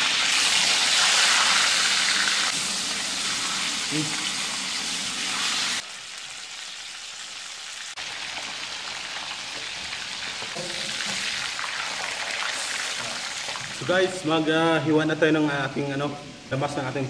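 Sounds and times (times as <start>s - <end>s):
fish sizzling in hot oil: 0.0s - 14.2s.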